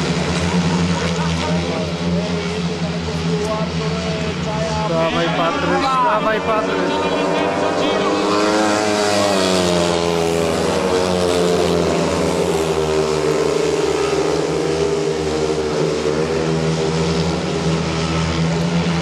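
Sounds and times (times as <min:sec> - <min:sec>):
motorcycle engines racing: 0:00.0 - 0:19.0.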